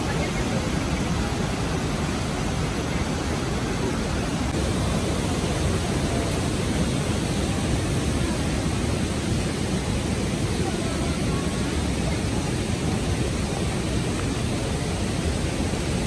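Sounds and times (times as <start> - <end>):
waterfall and rapids roaring: 0.0 - 16.0.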